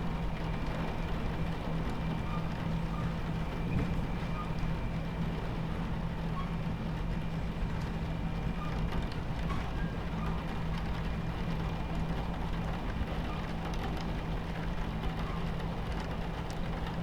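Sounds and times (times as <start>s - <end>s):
rain ticking on window: 0.0s - 17.0s
train rumbling on tracks: 0.0s - 17.0s.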